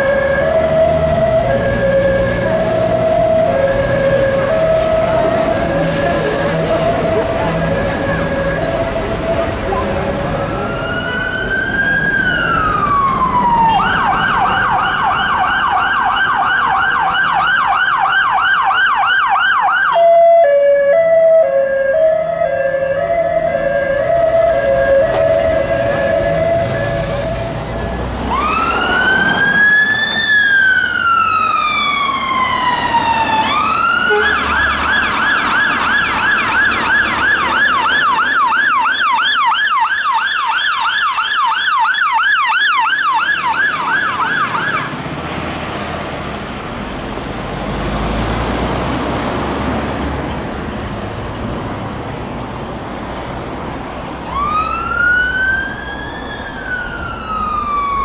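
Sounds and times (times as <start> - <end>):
second siren wailing: 0.0 - 45.0, 54.2 - 58.0
fire engine siren: 0.0 - 50.4, 52.3 - 58.0
fire engine engine: 0.0 - 58.0
road noise: 0.0 - 58.0.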